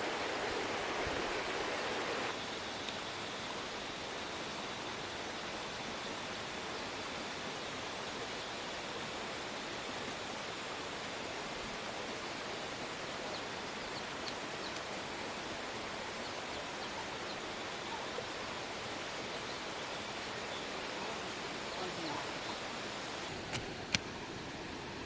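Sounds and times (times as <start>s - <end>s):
steady rushing hiss: 0.0s - 25.0s.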